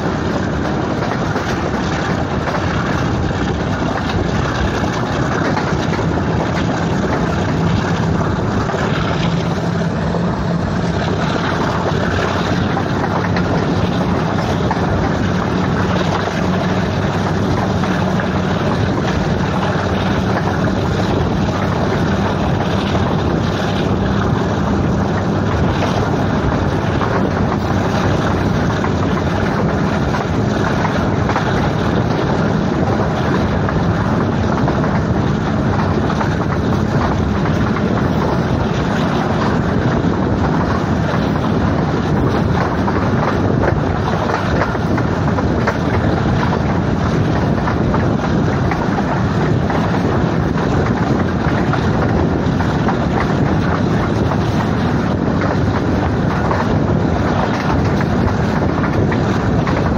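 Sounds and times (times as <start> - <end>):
train rumble: 0.0 - 59.9
wind on microphone: 0.0 - 59.9.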